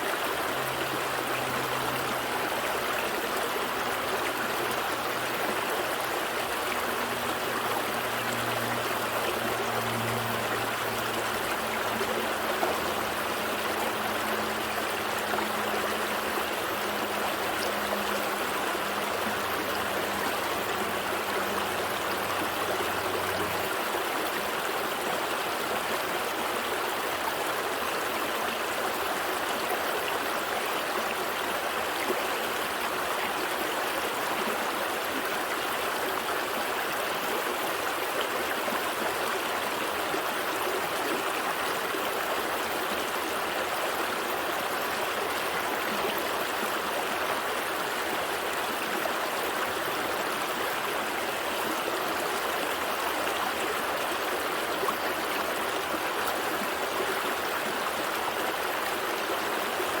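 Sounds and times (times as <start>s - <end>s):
stream trickling over rocks: 0.0s - 60.0s.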